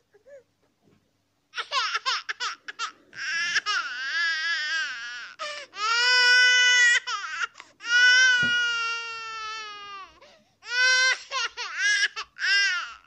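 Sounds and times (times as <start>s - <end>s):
baby crying: 1.6s - 13.0s.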